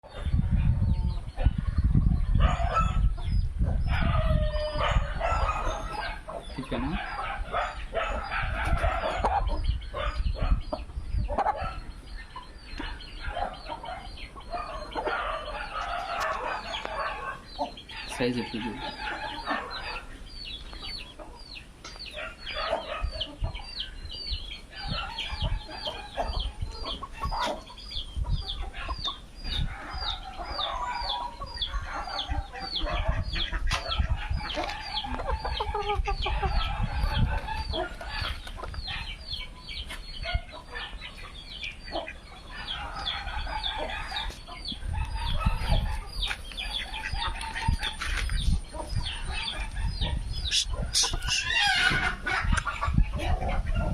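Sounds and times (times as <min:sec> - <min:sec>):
chickens clucking: 0:00.0 - 0:53.9
chicks peeping: 0:00.0 - 0:53.9.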